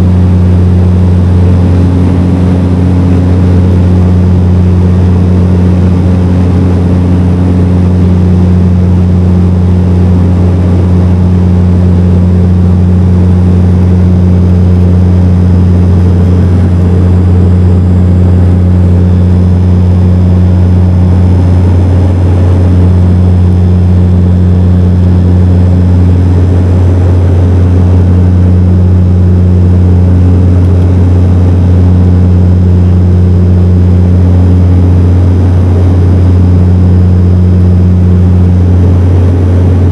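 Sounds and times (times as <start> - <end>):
high-pitched hum: 0.0 - 39.9
turboprop engine drone: 0.0 - 39.9.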